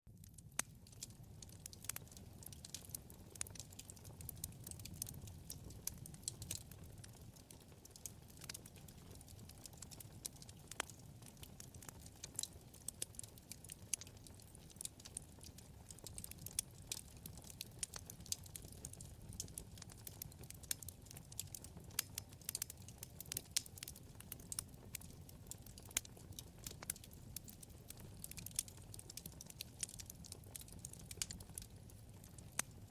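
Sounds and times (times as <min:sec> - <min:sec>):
wood fire crackling: 0:00.1 - 0:32.9.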